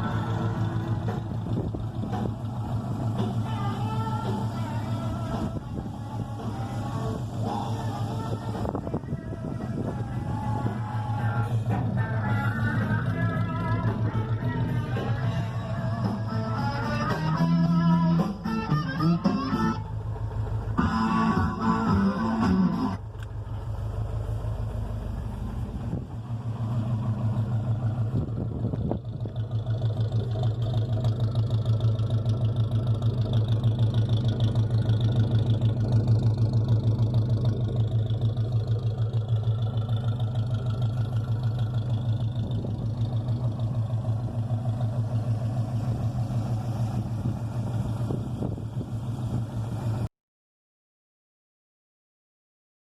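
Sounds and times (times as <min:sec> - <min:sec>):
car engine idling: 0:00.0 - 0:50.1.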